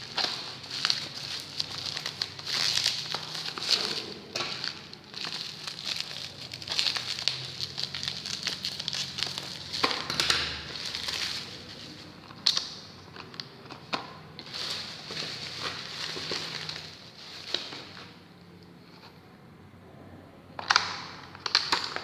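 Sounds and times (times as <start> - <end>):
plastic packaging crinkling: 0.0 - 18.3, 20.6 - 22.0.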